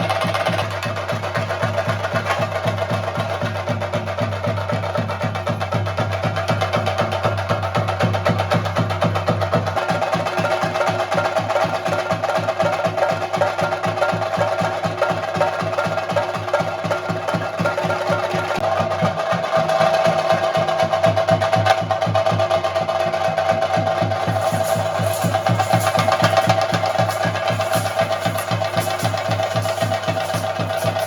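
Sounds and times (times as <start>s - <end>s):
drums beaten in fast rhythm: 0.0s - 31.0s.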